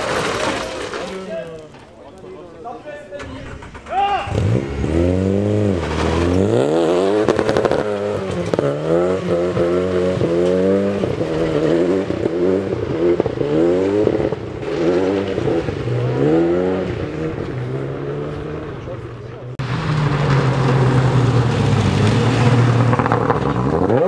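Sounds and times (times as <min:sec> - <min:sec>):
rally car engine revving: 0:03.4 - 0:24.0.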